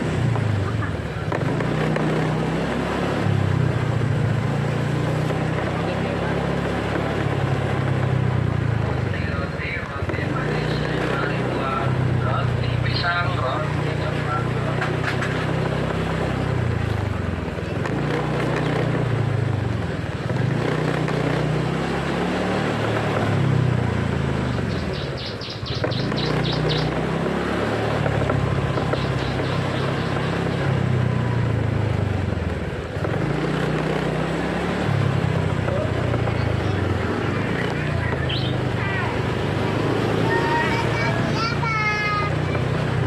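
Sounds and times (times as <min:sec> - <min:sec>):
motorcycle engine running: 0:00.0 - 0:43.0
road and wind noise: 0:00.0 - 0:43.0.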